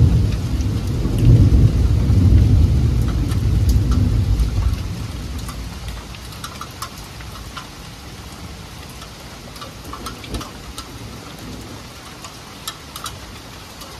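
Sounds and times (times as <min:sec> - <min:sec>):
heavy rain hissing: 0:00.0 - 0:13.9
raindrops tapping on wooden deck: 0:00.0 - 0:13.9.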